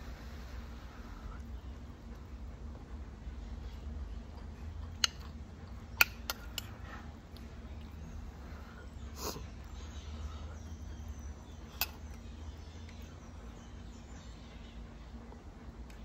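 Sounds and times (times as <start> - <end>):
steady low hum: 0.0 - 16.0
quiet chewing: 0.9 - 16.0.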